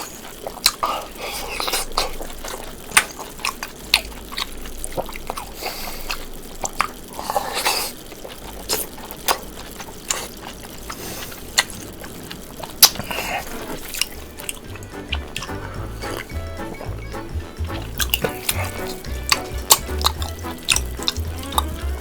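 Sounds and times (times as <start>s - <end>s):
wet chewing mouth sounds: 0.0s - 22.0s.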